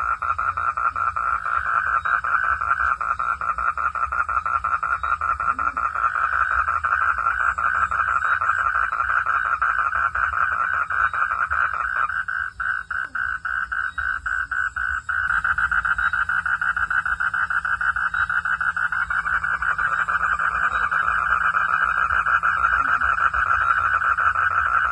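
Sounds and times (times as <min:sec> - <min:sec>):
frogs calling in pulsing chorus: 0:00.0 - 0:24.9.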